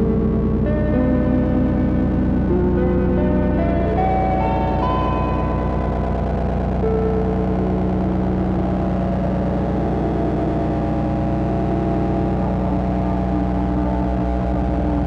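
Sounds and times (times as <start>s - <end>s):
deep bass tone: 0.0s - 15.0s
synthesizer drone: 0.0s - 15.0s.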